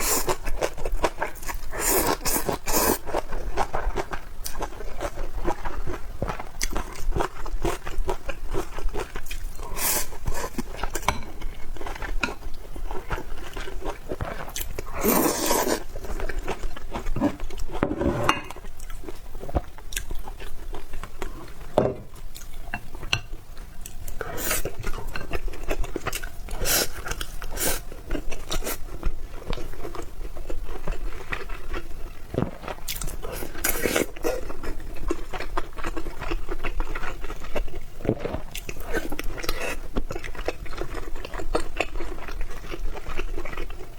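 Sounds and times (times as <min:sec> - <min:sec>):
chewing and crunchy bites: 0:00.0 - 0:17.8, 0:24.6 - 0:43.9.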